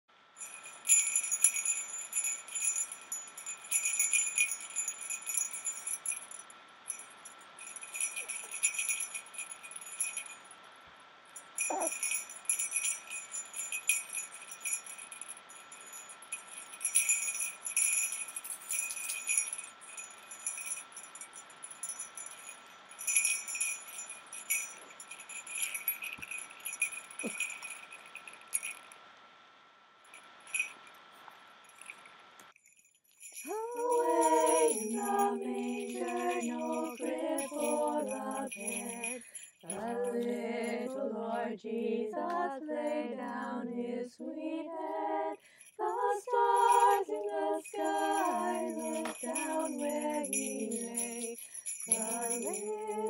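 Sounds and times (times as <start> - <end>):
jingle bells shaken: 0.4 - 10.7, 11.4 - 29.0, 30.1 - 41.0, 44.8 - 53.0.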